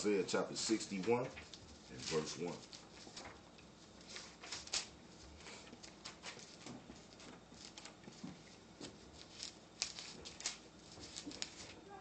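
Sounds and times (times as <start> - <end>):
paper pages rustling: 0.5 - 12.0.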